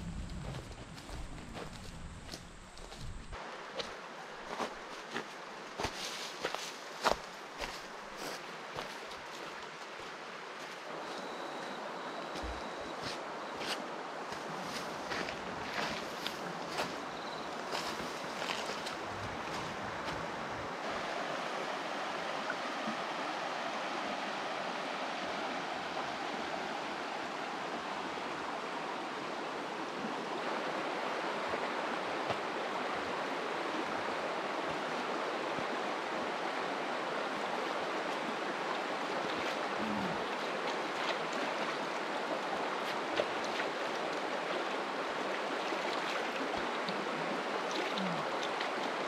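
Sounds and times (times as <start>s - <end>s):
river water rushing: 3.4s - 49.0s.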